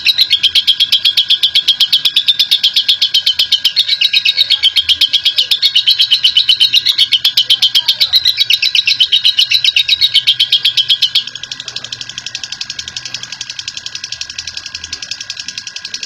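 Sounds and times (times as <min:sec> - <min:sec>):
lovebird chattering trill: 0:00.0 - 0:16.0.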